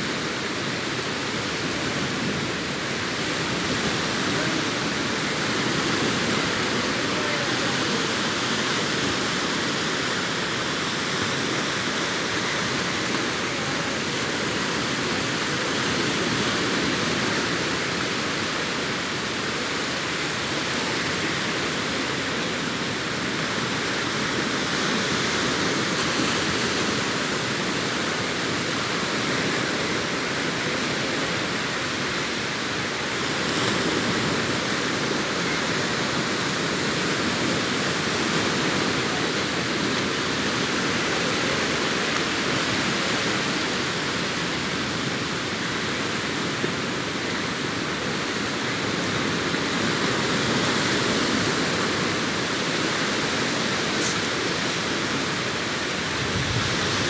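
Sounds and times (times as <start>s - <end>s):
sea surf washing onto shore: 0.0s - 57.0s.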